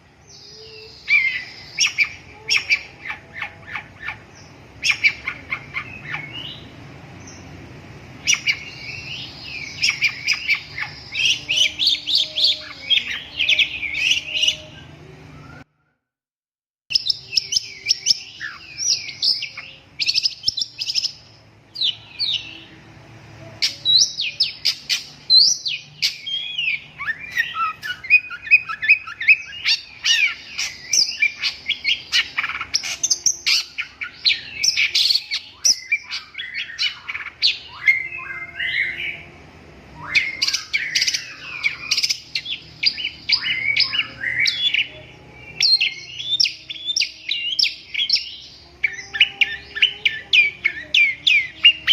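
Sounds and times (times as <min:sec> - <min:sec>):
shrike singing chirps and whistles: 0:00.3 - 0:06.7, 0:08.2 - 0:15.8, 0:23.6 - 0:39.3, 0:39.9 - 0:51.9.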